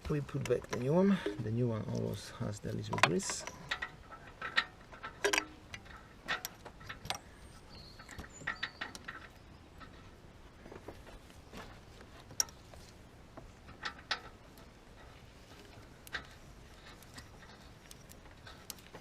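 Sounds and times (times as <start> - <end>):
light clicks and metallic knocks: 0.0 - 19.0.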